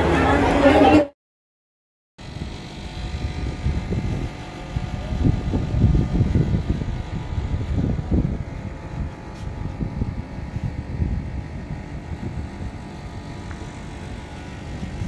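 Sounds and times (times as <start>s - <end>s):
distant city hum: 2.2s - 15.0s
wind buffeting microphone: 2.2s - 15.0s.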